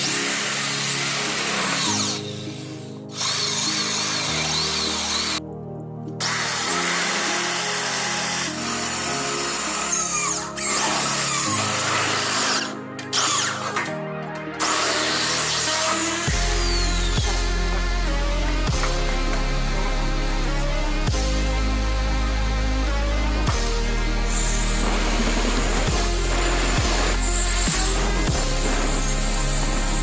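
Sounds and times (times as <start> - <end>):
power tool running: 0.0 - 5.4, 6.2 - 13.9, 14.6 - 30.0
background music: 0.0 - 30.0.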